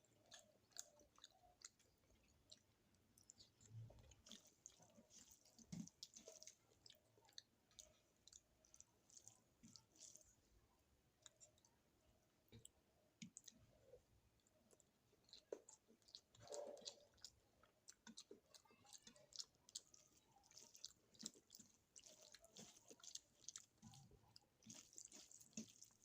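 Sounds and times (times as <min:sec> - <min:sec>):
faint chewing with mouth clicks: 0:00.0 - 0:26.0.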